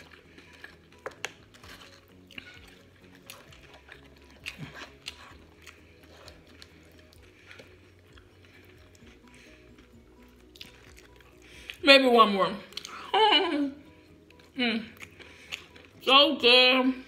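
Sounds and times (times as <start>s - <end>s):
chewing with wet clicks and crunches: 0.0s - 13.2s, 13.8s - 16.6s
faint background music: 0.0s - 17.0s.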